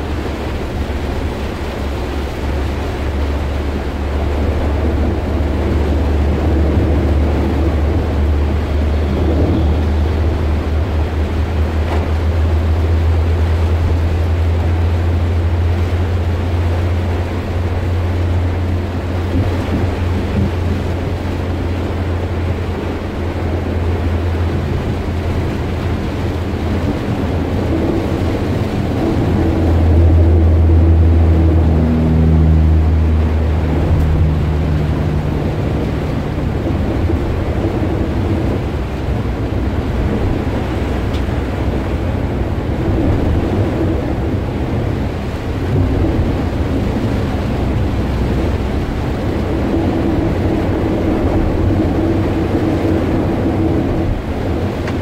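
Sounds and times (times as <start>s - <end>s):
engine and road drone: 0.0s - 55.0s
heavy rain on car roof: 0.0s - 55.0s.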